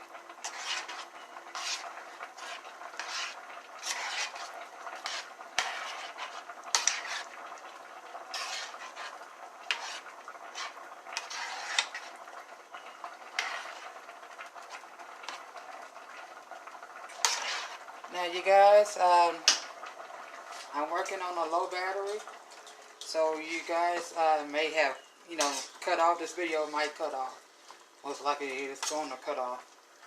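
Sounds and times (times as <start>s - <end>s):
spoon stirring in a pot: 0.0s - 21.2s, 24.8s - 27.0s, 27.6s - 29.5s.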